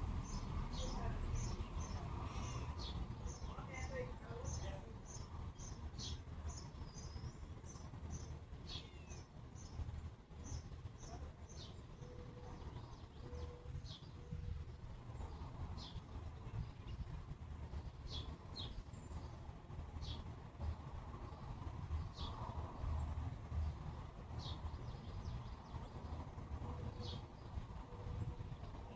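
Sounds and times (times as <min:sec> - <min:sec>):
birds chirping: 0:00.0 - 0:20.4, 0:21.3 - 0:28.9
steady low rumble: 0:00.0 - 0:28.9.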